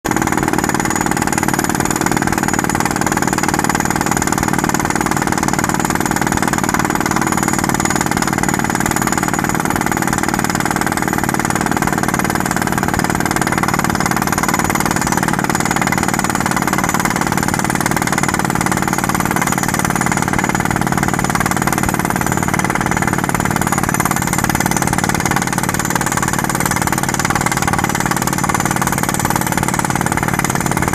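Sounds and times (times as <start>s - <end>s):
rock drill: 0.1s - 30.9s
skid steer engine running: 0.1s - 30.9s.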